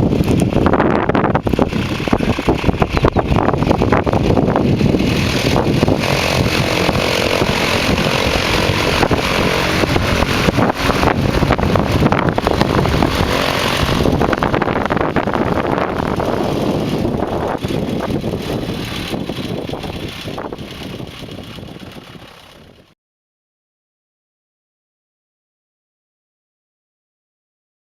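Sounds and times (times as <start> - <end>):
light aircraft engine and propeller: 0.0 - 23.0.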